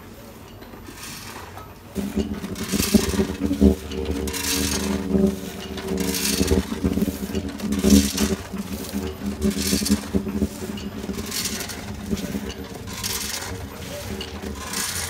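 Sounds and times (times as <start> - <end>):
machine hiss and clatter: 0.0 - 15.0
machine motor hum: 1.9 - 15.0.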